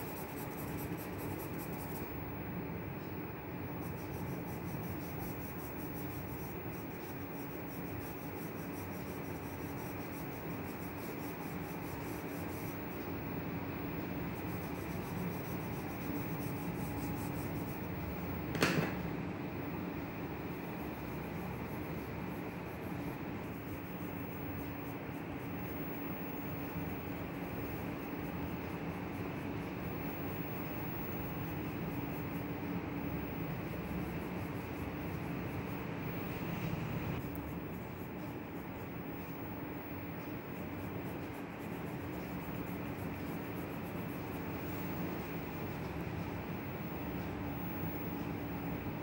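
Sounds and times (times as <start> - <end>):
pencil rubbing on paper: 0.0 - 2.2, 3.7 - 18.4, 20.5 - 36.6, 37.2 - 46.2
constant hum: 0.0 - 49.0.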